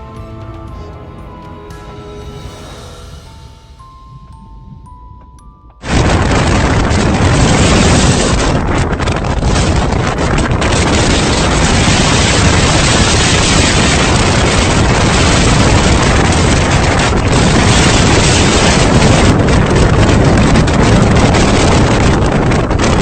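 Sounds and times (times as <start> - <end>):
strong wind roaring: 0.0 - 23.0.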